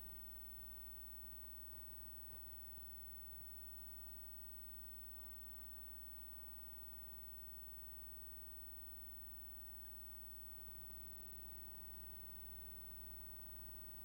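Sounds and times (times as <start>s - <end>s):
electrical hum with low buzz: 0.0s - 14.0s.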